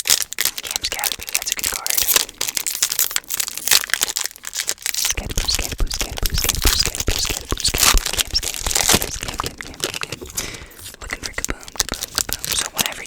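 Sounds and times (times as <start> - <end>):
card pack wrappers crinkling: 0.0 - 13.0.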